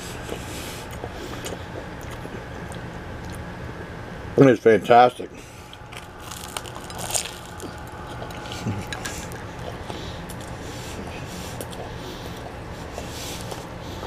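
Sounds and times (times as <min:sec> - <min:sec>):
person chewing: 0:00.0 - 0:03.5, 0:05.4 - 0:14.0
low hum: 0:00.0 - 0:14.0.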